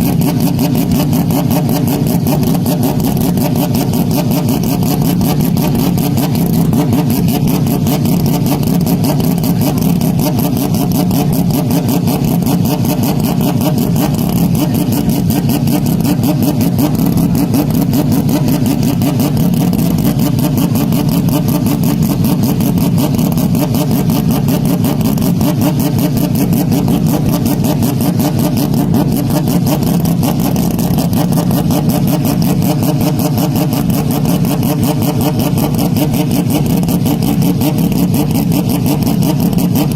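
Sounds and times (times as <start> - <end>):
motocross motorcycle engines: 0.0 - 39.9.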